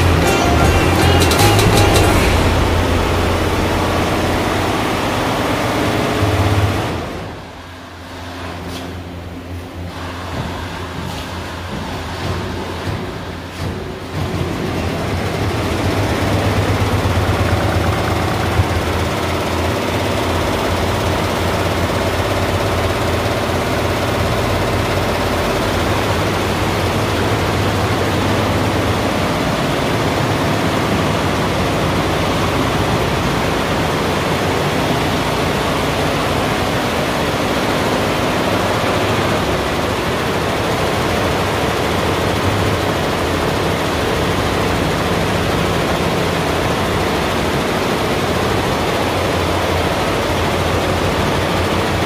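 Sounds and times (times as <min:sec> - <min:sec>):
embroidery machine running: 0:00.0 - 0:52.0.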